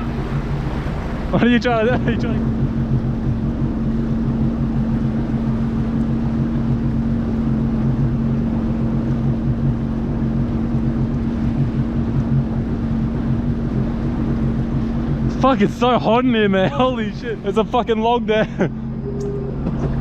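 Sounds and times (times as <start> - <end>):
jet ski engine hum: 0.0 - 20.0
water and wind noise: 0.0 - 20.0.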